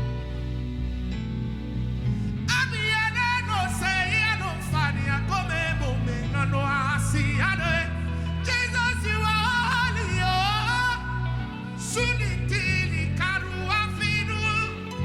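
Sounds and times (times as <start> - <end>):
gospel band playing: 0.0 - 15.0
person singing: 2.5 - 15.0.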